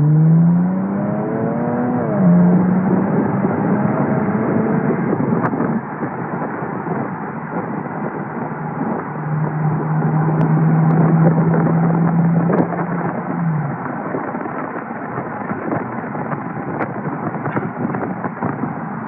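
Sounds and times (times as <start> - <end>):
car engine drone: 0.0 - 19.0
road and wind noise: 0.0 - 19.0.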